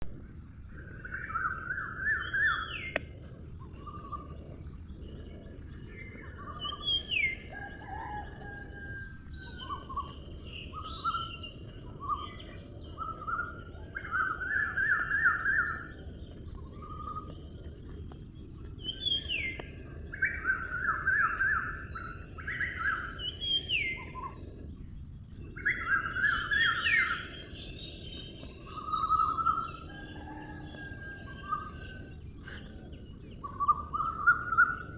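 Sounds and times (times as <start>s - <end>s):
birds chirping and whistling: 0.7s - 34.9s.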